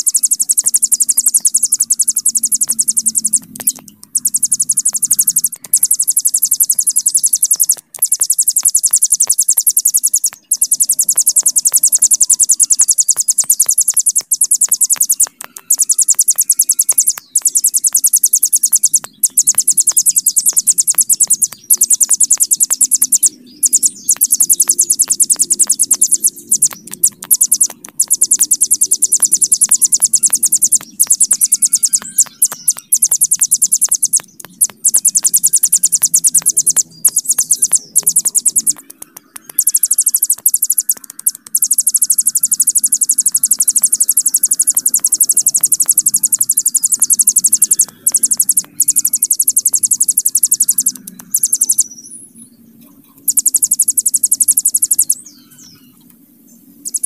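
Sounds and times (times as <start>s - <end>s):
bird singing rattling trills: 0.0s - 56.1s, 56.8s - 57.0s.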